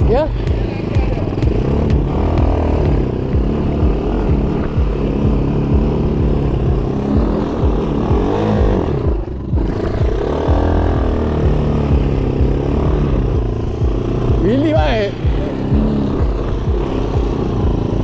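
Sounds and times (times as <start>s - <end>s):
atv engine running: 0.0s - 18.0s
short low thumps: 0.0s - 18.0s.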